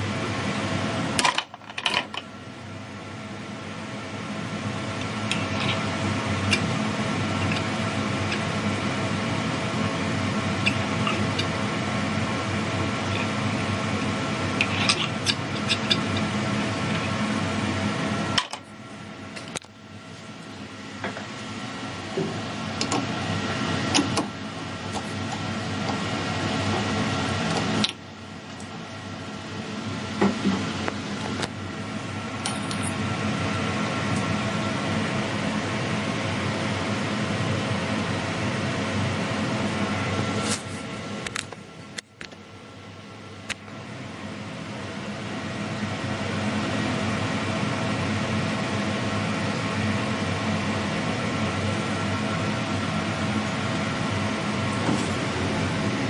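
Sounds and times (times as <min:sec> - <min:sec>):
lathe mechanical hum: 0:00.0 - 0:56.0.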